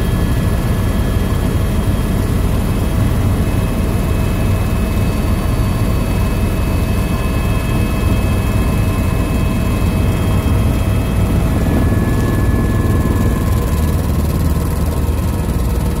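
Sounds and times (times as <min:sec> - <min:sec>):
aircraft cabin engine drone: 0:00.0 - 0:16.0.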